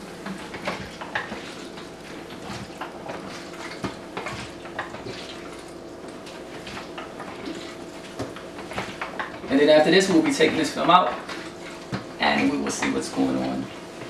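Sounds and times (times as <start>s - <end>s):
liquid sloshing in a tank: 0.0s - 14.0s.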